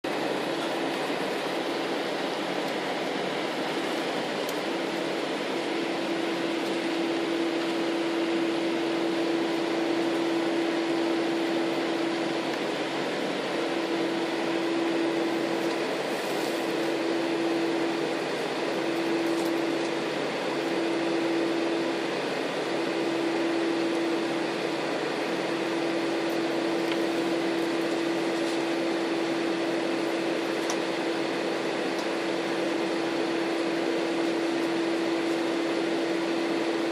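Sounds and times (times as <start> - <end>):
steady droning hum: 0.1 - 36.9.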